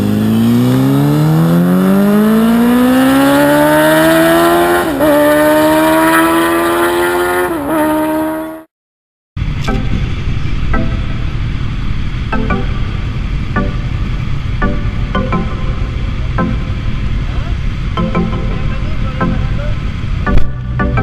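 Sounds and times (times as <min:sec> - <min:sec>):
engine accelerating: 0:00.0 - 0:08.7, 0:09.4 - 0:21.0.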